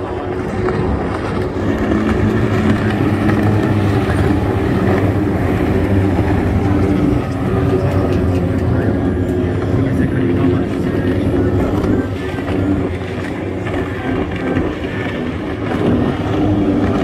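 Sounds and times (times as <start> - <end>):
racing powerboat engines: 0.0 - 17.0.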